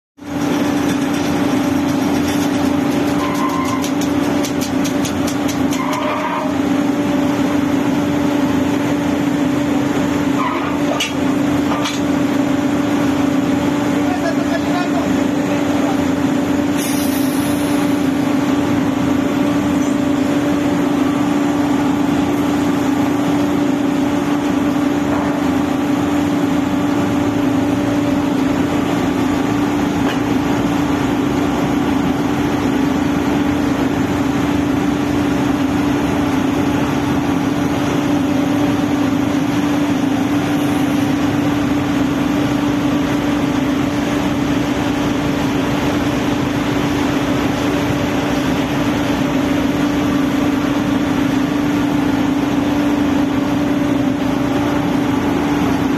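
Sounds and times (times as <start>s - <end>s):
drilling rig machinery drone: 0.2s - 55.9s.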